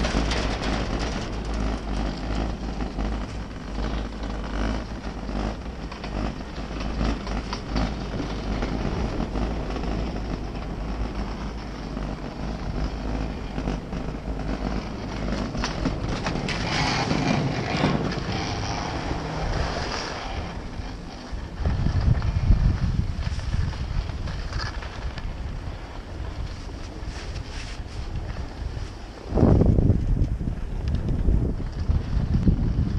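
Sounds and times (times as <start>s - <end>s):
skis scraping over snow: 0.0s - 32.9s
wind buffeting microphone: 0.0s - 32.9s.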